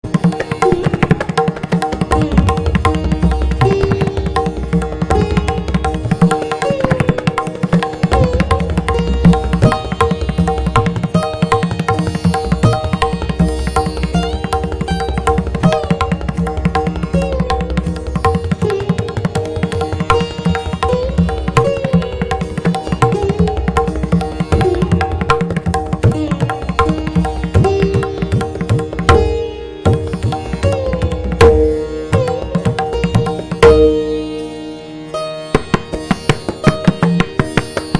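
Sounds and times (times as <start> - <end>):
melodic accompaniment with sliding pitches: 0.0 - 37.9
tabla rhythm: 0.0 - 37.9.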